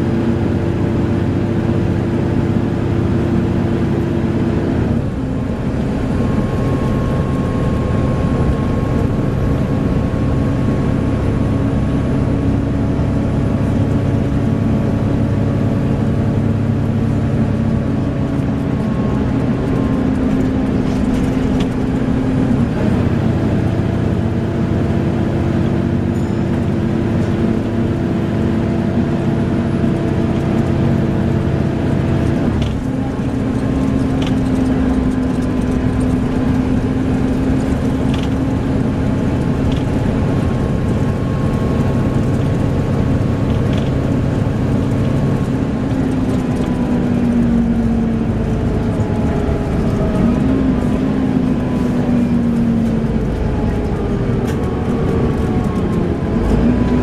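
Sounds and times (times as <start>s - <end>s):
bus diesel engine whine: 0.0s - 57.0s
road rumble: 0.0s - 57.0s.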